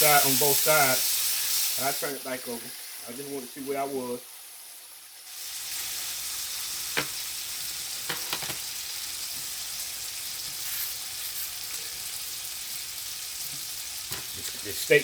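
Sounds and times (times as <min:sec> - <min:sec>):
steaks sizzling in a frying pan: 0:00.0 - 0:15.0.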